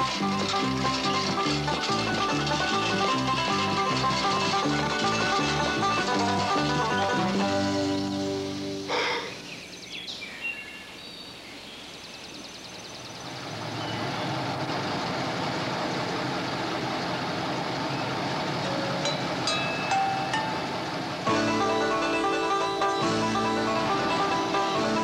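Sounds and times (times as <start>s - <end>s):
truck engine running: 0.0s - 9.6s, 13.0s - 25.0s.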